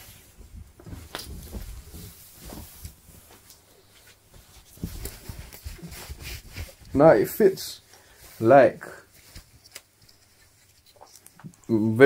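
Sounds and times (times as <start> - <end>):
clothing rustling: 0.0 - 11.7.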